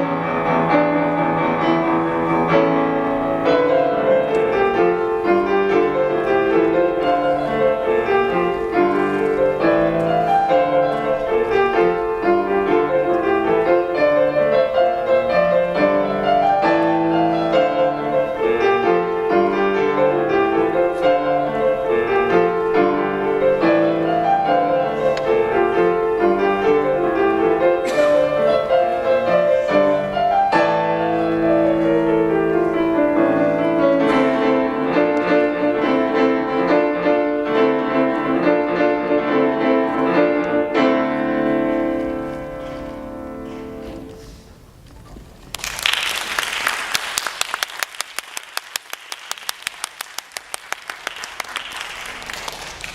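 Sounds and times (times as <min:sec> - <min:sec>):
solo piano playing: 0:00.0 - 0:45.4.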